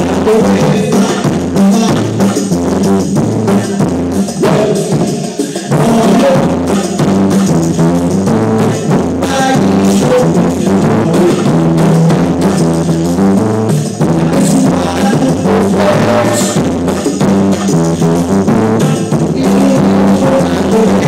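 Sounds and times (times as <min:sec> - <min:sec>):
bass line: 0:00.0 - 0:21.0
drum beat: 0:00.0 - 0:21.0.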